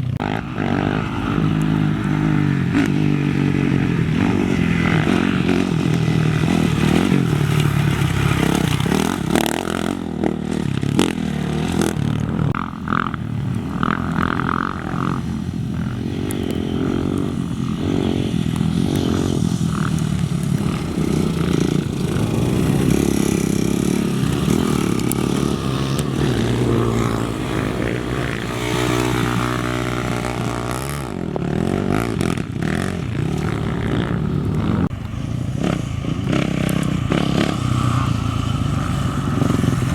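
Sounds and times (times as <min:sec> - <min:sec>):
race engines revving by: 0:00.0 - 0:39.9.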